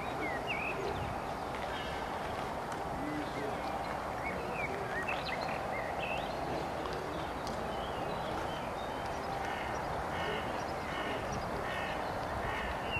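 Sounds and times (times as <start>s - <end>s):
rushing background noise: 0.0s - 12.9s
small birds chirping: 0.0s - 12.9s.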